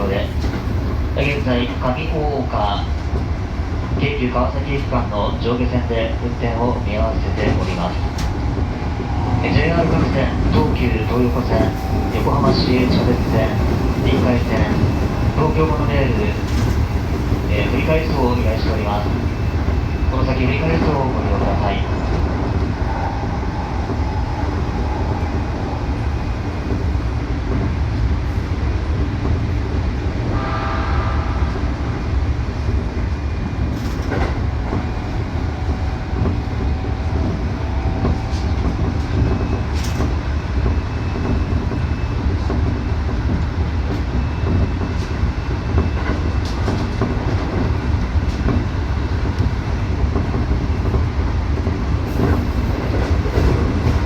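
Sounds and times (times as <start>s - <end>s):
train wheels and motors rumbling: 0.0s - 54.0s.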